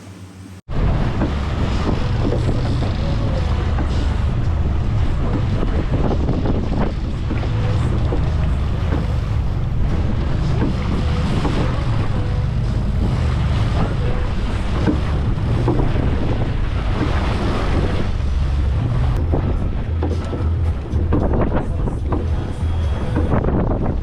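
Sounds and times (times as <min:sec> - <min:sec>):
boat engine drone: 0:00.0 - 0:24.0
water rushing against hull: 0:00.0 - 0:24.0
wind buffeting microphone: 0:00.7 - 0:24.0.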